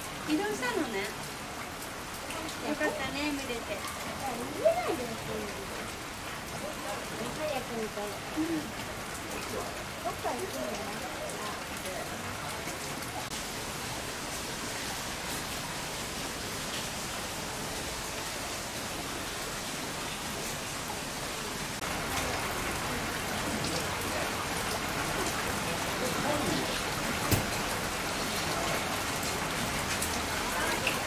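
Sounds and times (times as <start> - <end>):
torrential rain: 0.0 - 31.0.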